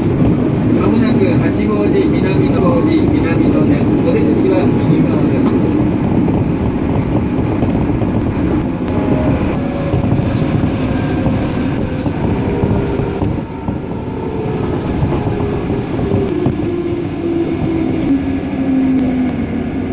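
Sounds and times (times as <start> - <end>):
electric train running noise: 0.0 - 19.9.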